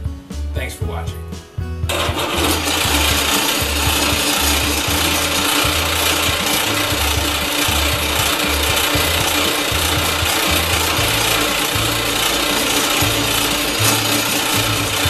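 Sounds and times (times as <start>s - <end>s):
lathe cutting steel hiss: 1.9s - 15.0s
low hum: 1.9s - 15.0s.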